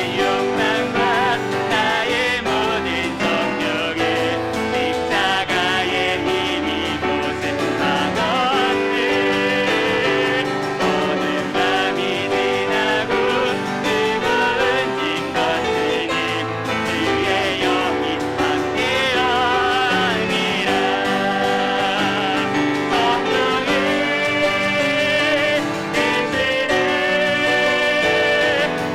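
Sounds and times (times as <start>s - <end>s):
group singing worship song: 0.0s - 28.9s
piano accompaniment: 0.0s - 28.9s.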